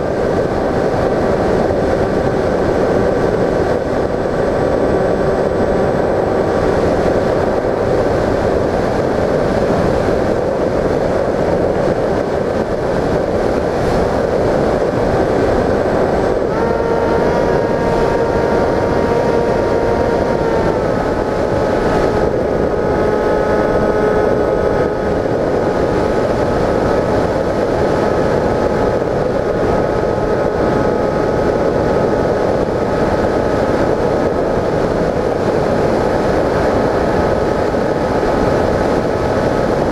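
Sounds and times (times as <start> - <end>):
electric motor and propeller whine: 0.0 - 39.9
wind rushing past camera: 0.0 - 39.9.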